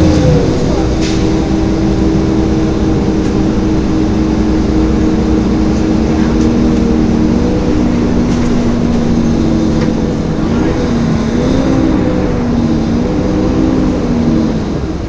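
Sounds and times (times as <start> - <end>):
bus engine and fan drone: 0.0 - 15.0
rumbling road noise: 0.0 - 15.0
whining tones: 0.0 - 15.0.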